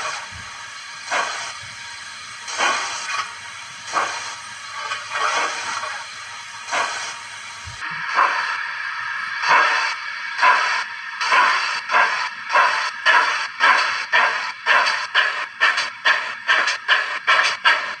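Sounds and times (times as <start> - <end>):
steady steam hiss: 0.0 - 18.0
steam locomotive exhaust chuffs: 0.0 - 18.0.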